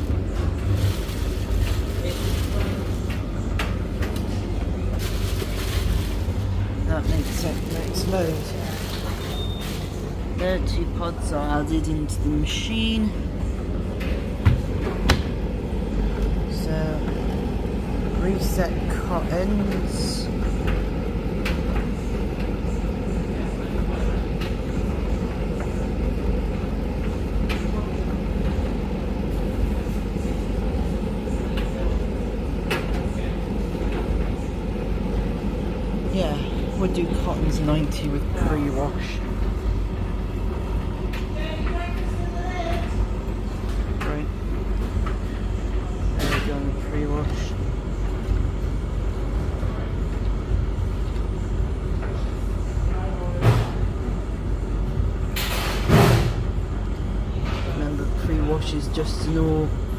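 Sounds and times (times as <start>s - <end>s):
tumble dryer rumbling: 0.0s - 59.9s.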